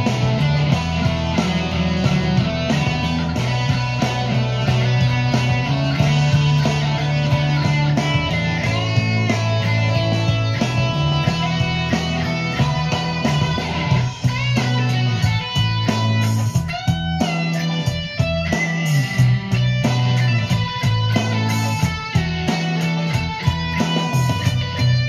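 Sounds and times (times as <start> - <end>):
bass line: 0.0 - 25.0
electric guitar through amp: 0.0 - 25.0
steady beat: 0.0 - 25.0.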